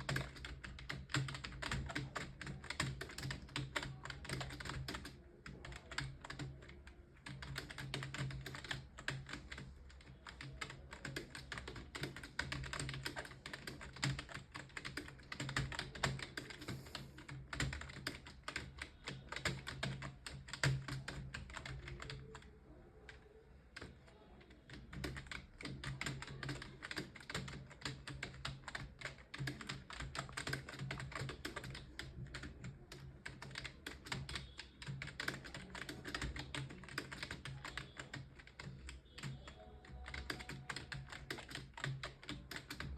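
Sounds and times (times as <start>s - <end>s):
fast keyboard typing: 0.0s - 42.9s.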